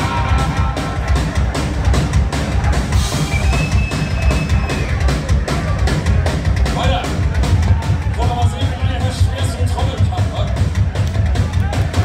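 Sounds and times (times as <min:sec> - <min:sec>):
punk rock band playing live: 0:00.0 - 0:12.0.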